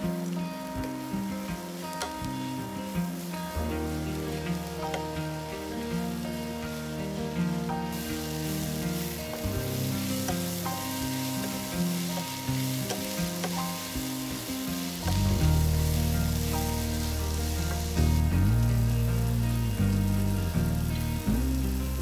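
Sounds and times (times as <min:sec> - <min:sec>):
food sizzling in a pan: 0:00.0 - 0:22.0
instrumental background music: 0:00.0 - 0:22.0.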